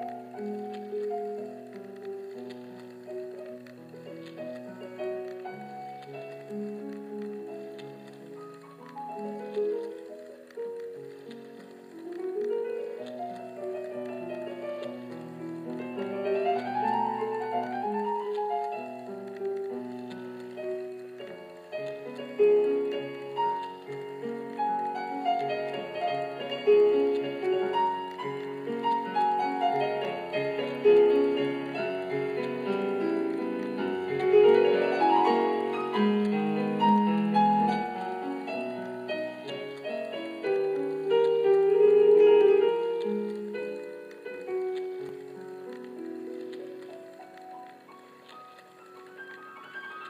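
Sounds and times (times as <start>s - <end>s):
classical piano music: 0.0s - 50.0s.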